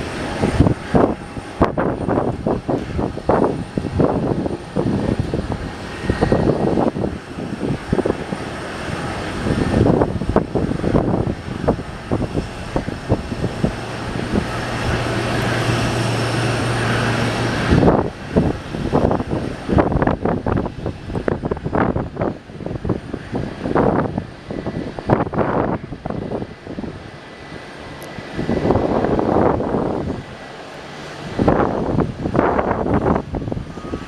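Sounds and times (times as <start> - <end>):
jet engines roaring: 0.0 - 34.0
wind buffeting microphone: 0.0 - 34.0.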